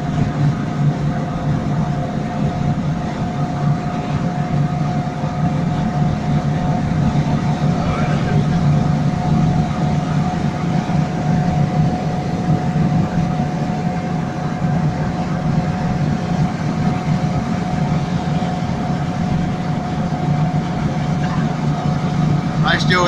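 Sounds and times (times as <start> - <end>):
car engine running: 0.0 - 23.0
road and wind noise: 0.0 - 23.0
thin steady whine: 0.0 - 23.0.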